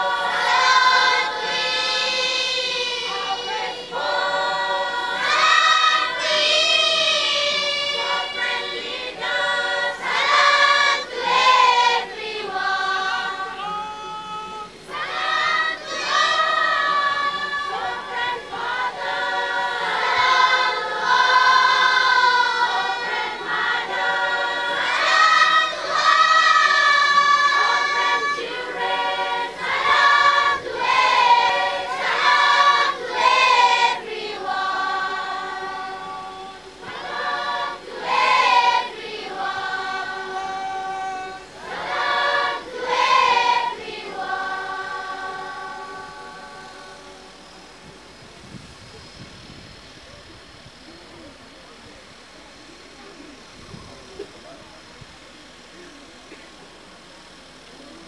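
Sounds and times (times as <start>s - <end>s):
children's choir singing: 0.0s - 48.2s.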